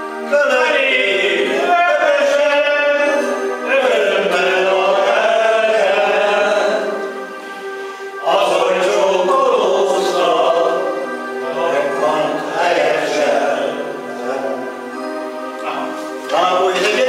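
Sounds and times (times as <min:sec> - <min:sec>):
voices singing together: 0:00.0 - 0:17.0.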